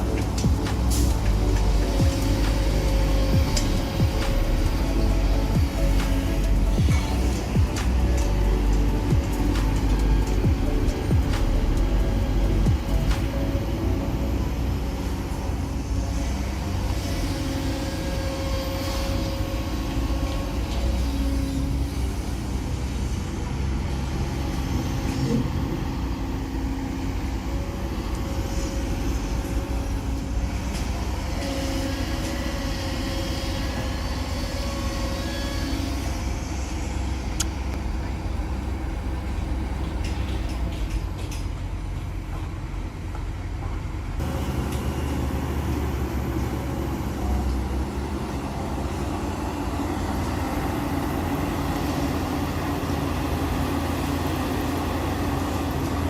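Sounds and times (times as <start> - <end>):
diesel machinery engine drone: 0.0 - 56.0.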